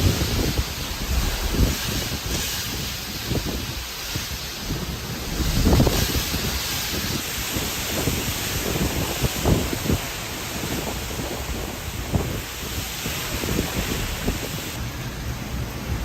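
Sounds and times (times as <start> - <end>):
steady hiss of rain: 0.0 - 16.0
wind buffeting the microphone: 0.0 - 16.0.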